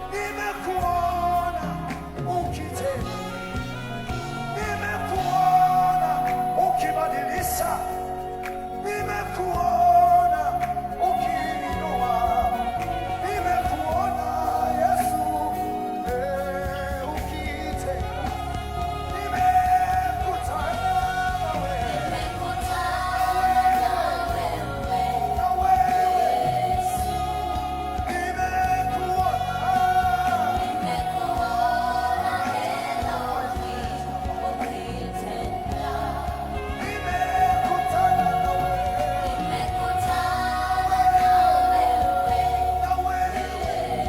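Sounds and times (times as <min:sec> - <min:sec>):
band playing: 0:00.0 - 0:44.0
gospel singing: 0:00.0 - 0:44.0.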